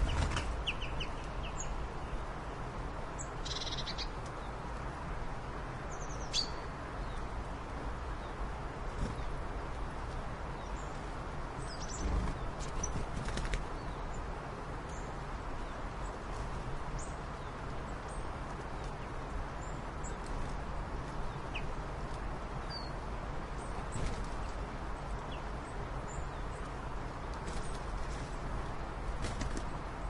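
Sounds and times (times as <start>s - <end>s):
steady background noise: 0.0s - 30.0s.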